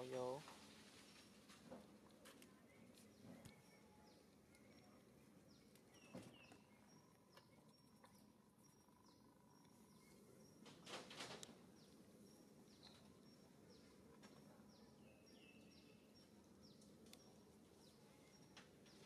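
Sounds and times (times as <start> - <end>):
distant birds chirping: 1.2 - 19.0.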